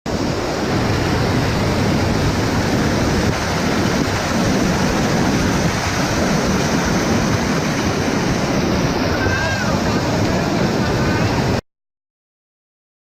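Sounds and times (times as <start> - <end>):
waterfall roaring: 0.1 - 11.6.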